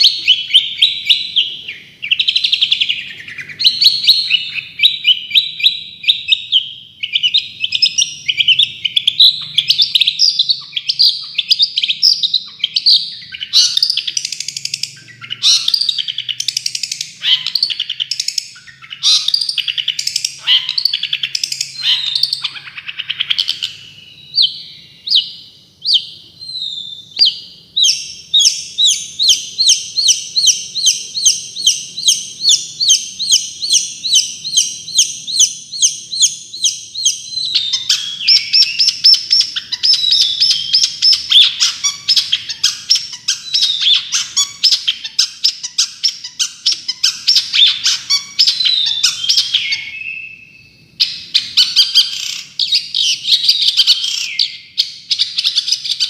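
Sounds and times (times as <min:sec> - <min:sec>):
songbird singing rapid notes: 0:00.0 - 0:56.0.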